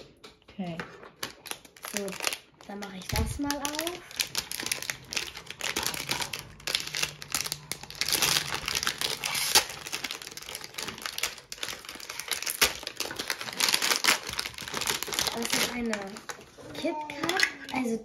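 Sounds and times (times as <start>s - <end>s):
packaging crinkling: 1.0s - 18.0s.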